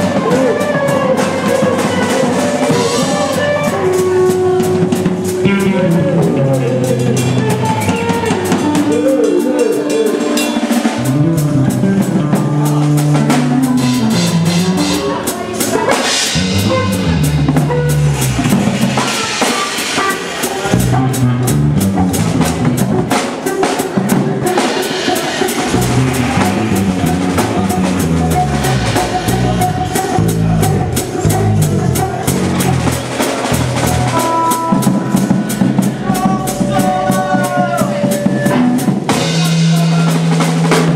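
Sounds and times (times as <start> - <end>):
bass guitar: 0.0 - 40.9
drum kit with cymbals and snare: 0.0 - 40.9
electric guitar: 0.0 - 40.9.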